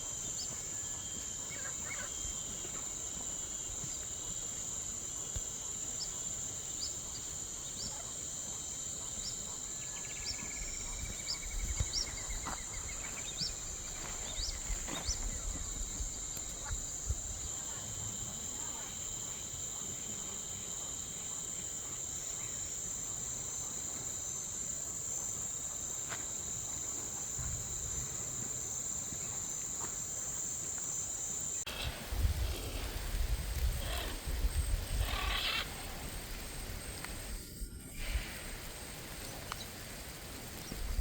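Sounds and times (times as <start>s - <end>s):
high-pitched insect chorus: 0.0s - 41.0s.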